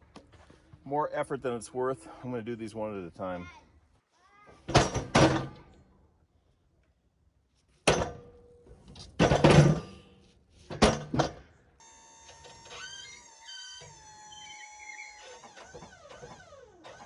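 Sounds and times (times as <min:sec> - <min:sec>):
faint mechanical hum: 0:00.0 - 0:17.0.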